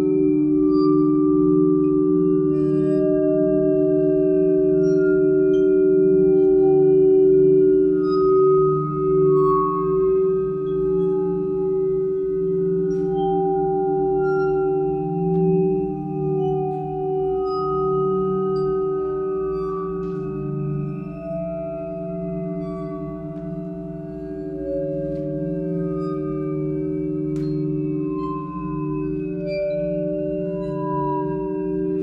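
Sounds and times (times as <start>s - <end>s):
low ringing drone: 0.0s - 32.0s.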